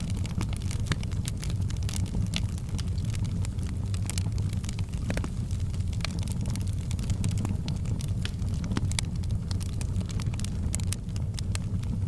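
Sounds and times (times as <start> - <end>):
low rumble of flames: 0.0 - 12.0
wood fire crackling: 0.0 - 12.0.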